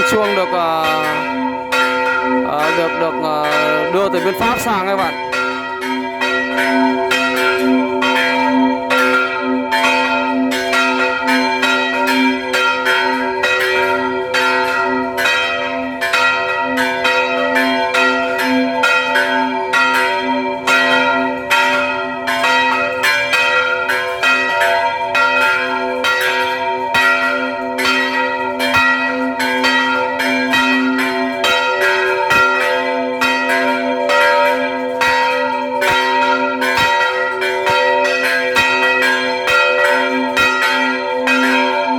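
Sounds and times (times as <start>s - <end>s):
church bells ringing: 0.0s - 41.9s.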